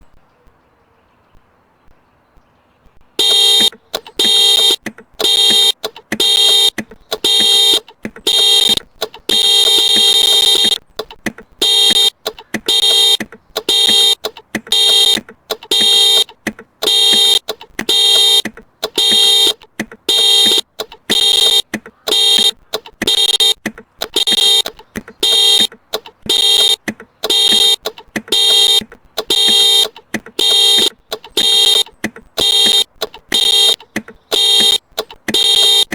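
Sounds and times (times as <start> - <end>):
car alarm beeping: 3.2 - 35.9
car alarm quick tones: 3.2 - 35.9.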